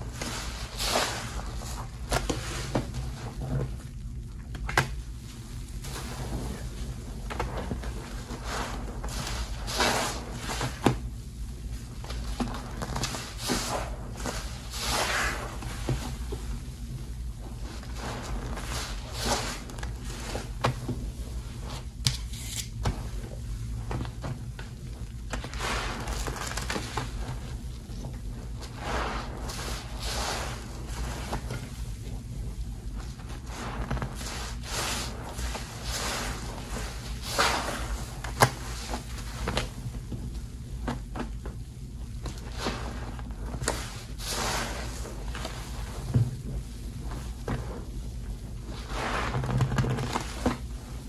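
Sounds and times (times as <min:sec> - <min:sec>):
sponge squelching in soap suds: 0:00.0 - 0:51.0.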